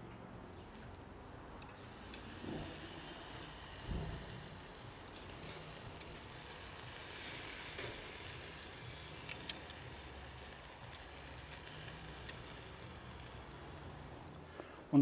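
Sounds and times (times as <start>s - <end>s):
sausages sizzling on grill: 1.6s - 14.6s.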